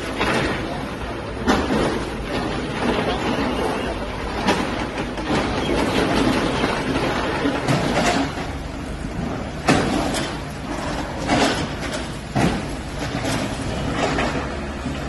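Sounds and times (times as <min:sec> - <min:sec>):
excavator engine drone: 0:00.0 - 0:15.0.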